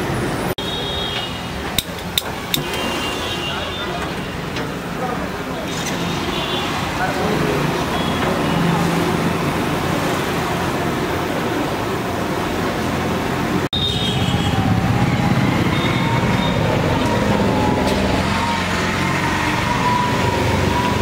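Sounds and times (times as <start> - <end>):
street traffic: 0.0 - 21.0.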